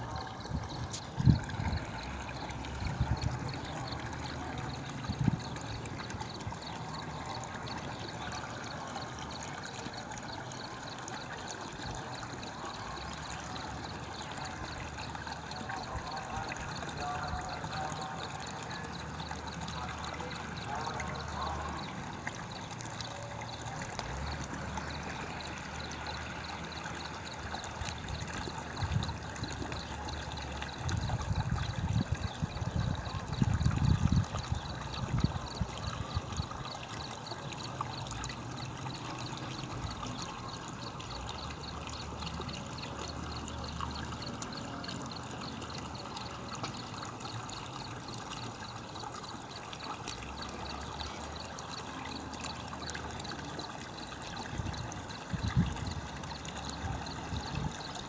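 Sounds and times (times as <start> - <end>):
rainwater running and trickling: 0.0 - 58.0.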